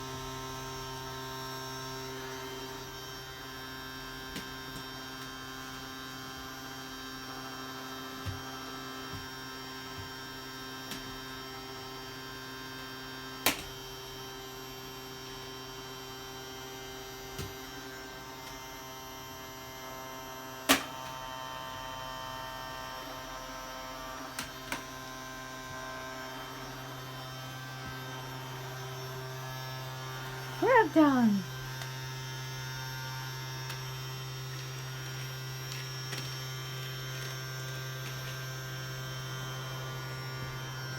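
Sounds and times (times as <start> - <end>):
vacuum cleaner motor running: 0.0 - 40.9.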